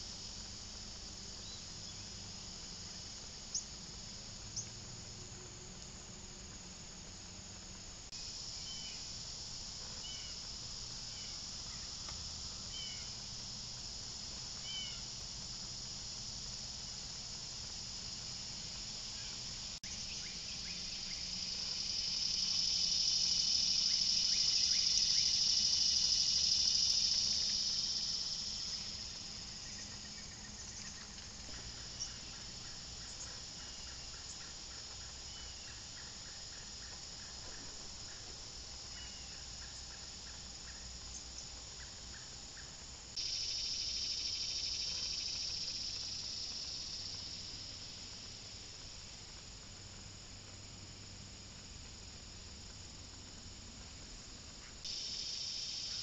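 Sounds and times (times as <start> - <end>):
cicada buzz: 0.0 - 56.0.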